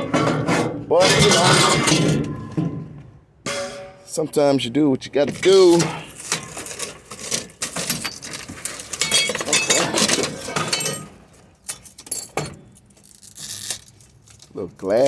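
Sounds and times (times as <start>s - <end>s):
scrap metal and glass clinking: 0.0s - 2.8s, 3.5s - 4.1s, 5.4s - 14.4s.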